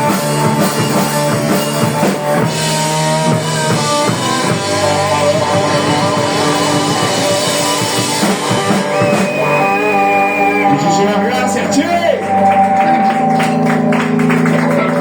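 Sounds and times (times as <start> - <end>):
drum kit: 0.0 - 15.0
guitar: 0.0 - 15.0.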